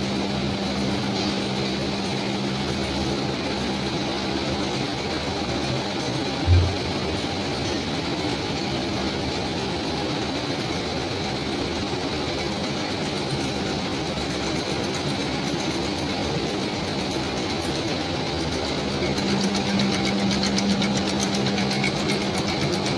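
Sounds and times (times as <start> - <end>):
fabric machine running: 0.0 - 22.9.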